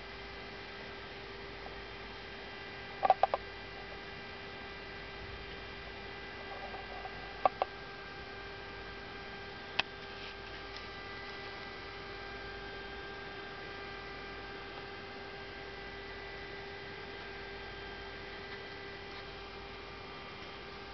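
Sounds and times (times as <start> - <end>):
steady electrical hum: 0.0 - 20.9.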